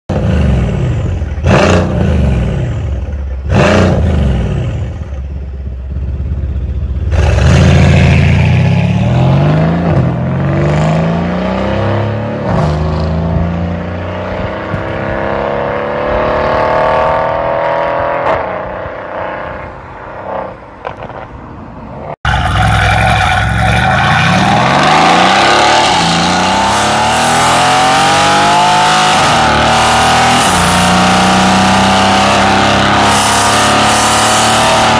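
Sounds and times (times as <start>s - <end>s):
car engine revving: 0.1s - 5.3s, 5.9s - 21.3s, 22.2s - 34.9s.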